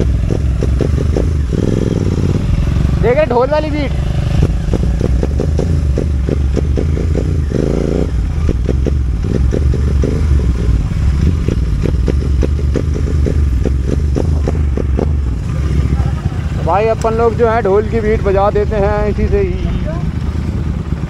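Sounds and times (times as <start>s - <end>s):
exhaust pops and crackles: 0.0s - 21.0s
motorcycle engine low rumble: 0.0s - 21.0s.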